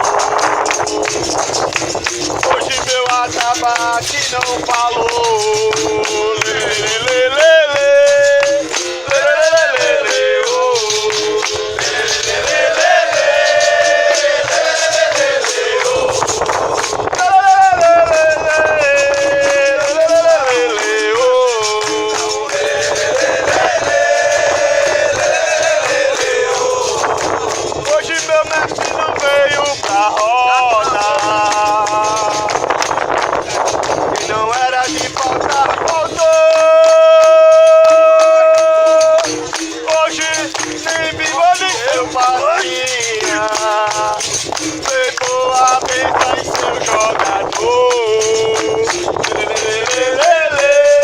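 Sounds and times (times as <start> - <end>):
rhythmic hand percussion: 0.0 - 51.0
man singing: 2.4 - 32.8, 34.2 - 51.0.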